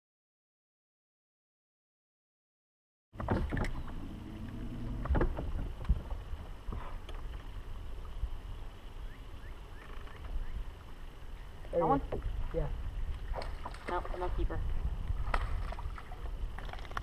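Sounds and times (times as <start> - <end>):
wind and water rumble: 3.2 - 17.0.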